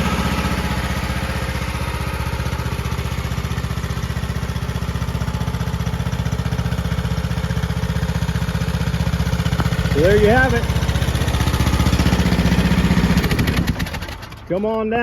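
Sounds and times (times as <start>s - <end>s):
small gas engine idling: 0.0s - 15.0s.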